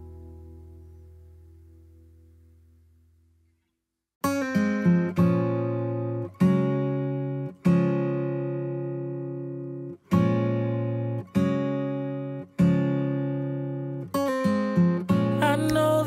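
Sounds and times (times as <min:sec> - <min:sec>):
acoustic guitar strumming chords: 0:00.0 - 0:02.7, 0:04.2 - 0:16.0.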